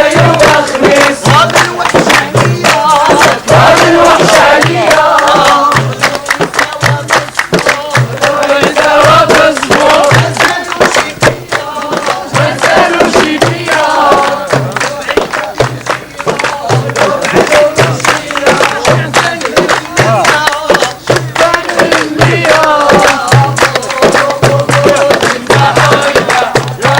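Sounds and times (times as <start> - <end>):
group singing a chant: 0.0 - 26.9
hand claps or hand drum: 0.0 - 26.9.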